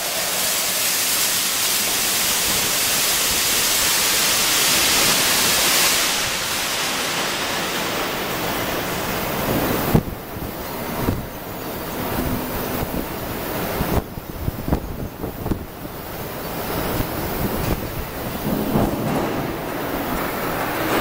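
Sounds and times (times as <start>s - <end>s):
furnace loud rushing noise: 0.0s - 21.0s.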